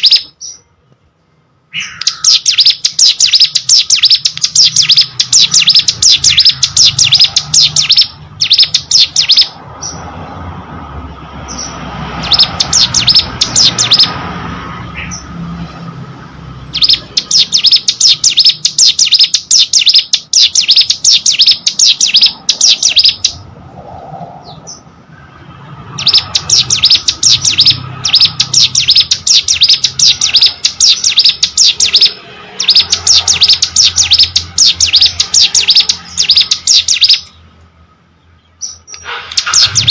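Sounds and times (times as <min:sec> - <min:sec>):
bird singing rapid high notes: 0:00.0 - 0:00.7, 0:01.6 - 0:10.3, 0:11.4 - 0:15.4, 0:16.0 - 0:23.5, 0:25.7 - 0:39.9.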